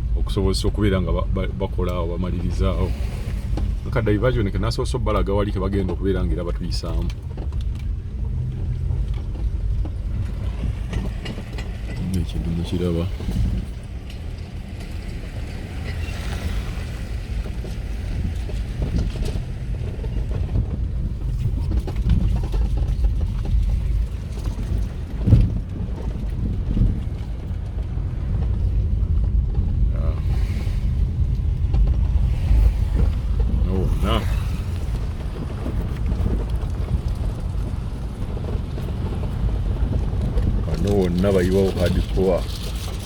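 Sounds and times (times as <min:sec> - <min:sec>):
vehicle rumbling on rough road: 0:00.0 - 0:43.0
wind buffeting microphone: 0:00.0 - 0:43.0.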